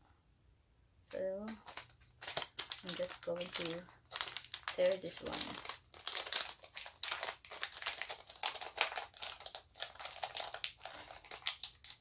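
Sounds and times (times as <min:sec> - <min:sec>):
plastic wrapper crinkling: 0:01.4 - 0:12.0.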